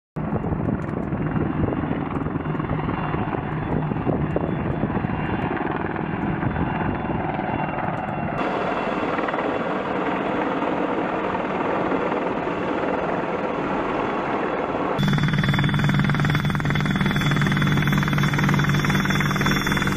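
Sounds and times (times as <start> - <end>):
helicopter rotor blades chopping: 0.2 - 19.9.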